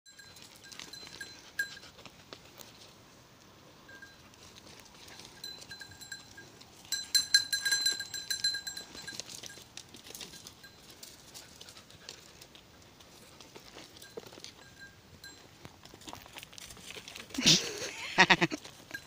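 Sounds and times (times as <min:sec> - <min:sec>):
sheep bell jingling: 0:00.1 - 0:02.8, 0:03.7 - 0:19.0.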